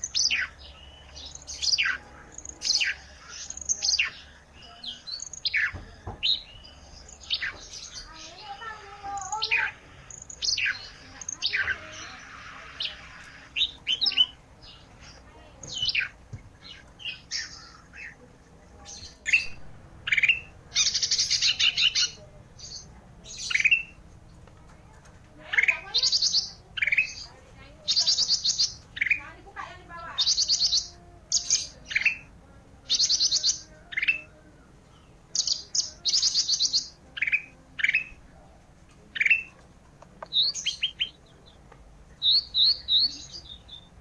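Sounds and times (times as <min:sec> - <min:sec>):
buzzy bird trills: 0:00.0 - 0:38.3, 0:39.0 - 0:39.6, 0:40.2 - 0:44.0
songbird chirping: 0:00.0 - 0:44.0.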